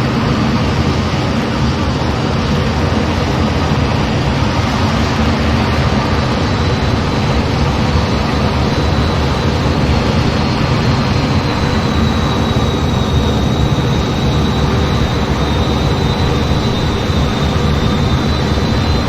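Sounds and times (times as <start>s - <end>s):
jet engine rush with high whine: 0.0s - 19.0s.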